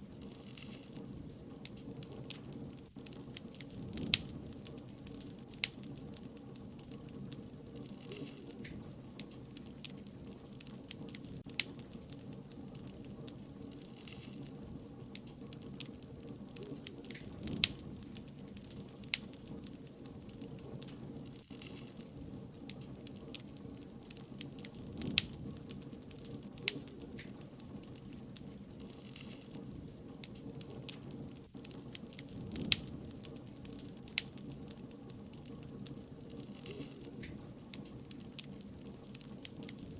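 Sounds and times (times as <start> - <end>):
burning wood popping and snapping: 0.0 - 39.9
low rumble of flames: 0.0 - 39.9.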